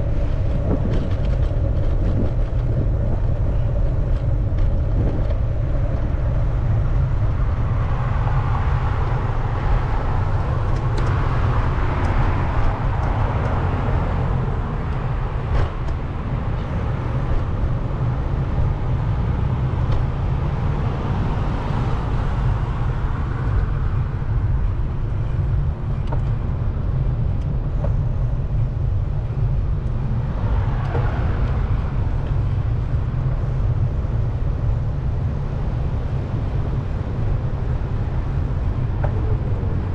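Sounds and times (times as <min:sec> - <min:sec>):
cars passing: 0:00.0 - 0:39.9
wind rumbling on microphone: 0:00.0 - 0:39.9.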